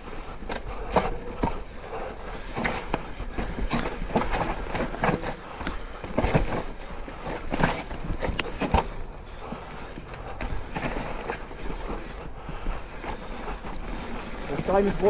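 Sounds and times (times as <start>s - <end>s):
mountain bike rattling over rocks: 0.0s - 15.0s.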